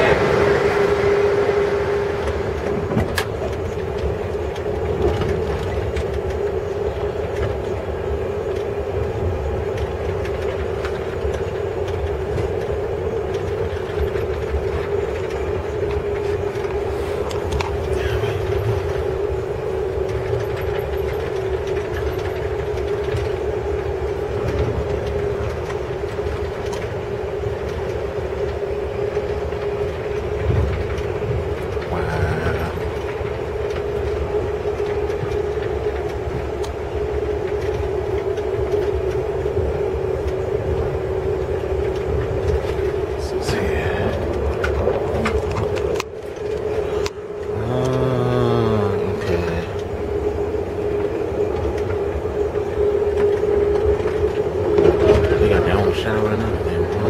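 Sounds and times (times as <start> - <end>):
steady hum: 0.0 - 57.0
train low rumble: 0.0 - 57.0.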